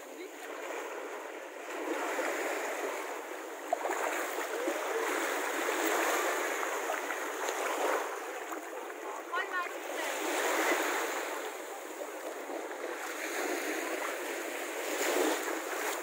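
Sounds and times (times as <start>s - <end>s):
small waves breaking on shore: 0.0s - 16.0s.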